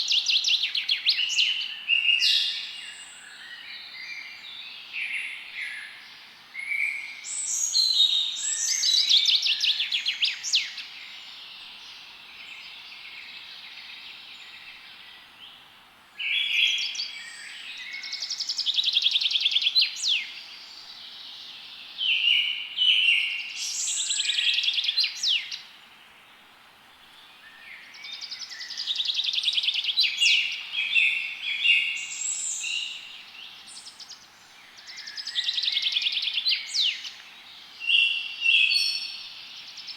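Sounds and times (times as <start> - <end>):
songbirds trilling and chirping: 0.0 - 39.9
steady background hiss: 0.0 - 39.9.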